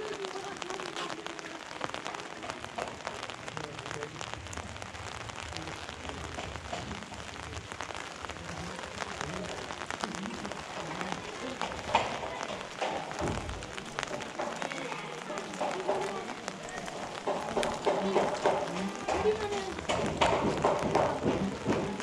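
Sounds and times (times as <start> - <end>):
rain on an umbrella: 0.0 - 22.0.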